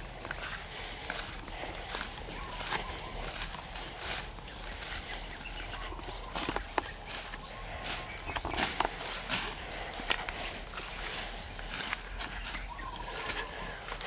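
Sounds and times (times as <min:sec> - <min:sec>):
footsteps through grass and brush: 0:00.0 - 0:14.0.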